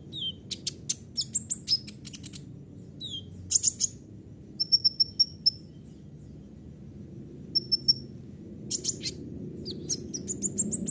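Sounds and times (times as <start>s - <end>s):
sunbird singing high chirps: 0.0s - 6.6s, 7.6s - 8.1s, 8.7s - 10.9s.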